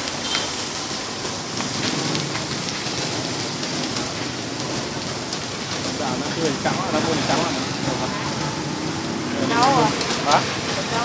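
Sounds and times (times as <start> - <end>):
meat sizzling on charcoal grill: 0.0 - 11.0
water squirted onto hot grill: 0.0 - 11.0.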